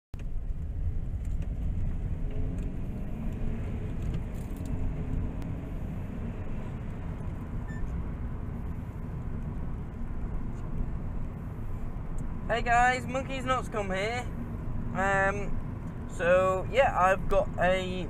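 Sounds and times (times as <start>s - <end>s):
road and engine rumble in car: 0.2s - 18.0s.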